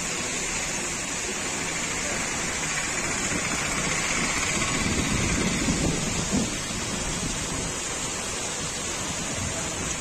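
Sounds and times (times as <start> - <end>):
heavy rain on rooftops: 0.0 - 10.0.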